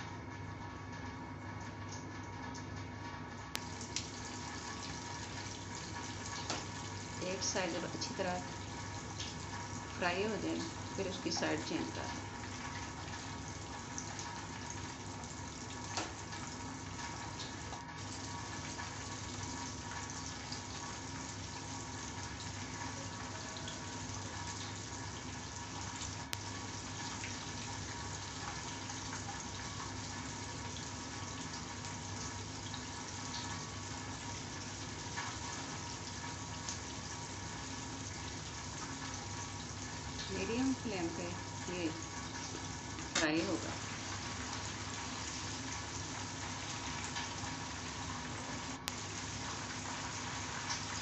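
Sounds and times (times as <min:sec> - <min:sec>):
chicken deep-frying in oil: 0:00.0 - 0:51.0.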